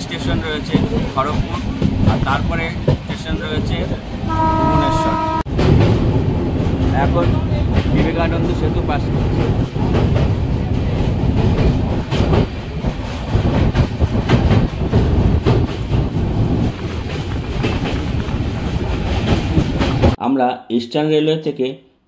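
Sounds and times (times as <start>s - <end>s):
train wheels clattering on bridge: 0.0s - 4.1s, 5.4s - 20.2s.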